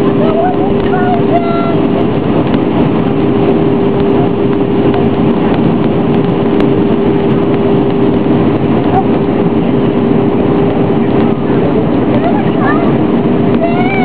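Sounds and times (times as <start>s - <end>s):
jet engine cabin roar: 0.0s - 14.0s
steady cabin hum: 0.0s - 14.0s.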